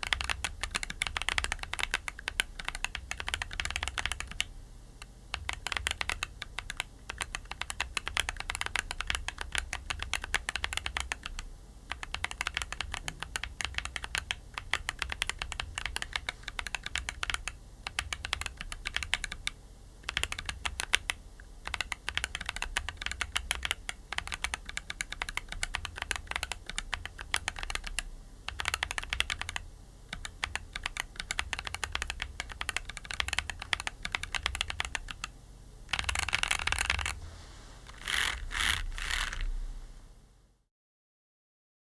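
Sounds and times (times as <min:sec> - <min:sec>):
mechanical keyboard typing: 0:00.0 - 0:04.5, 0:05.3 - 0:35.3, 0:35.9 - 0:37.2, 0:37.9 - 0:39.5.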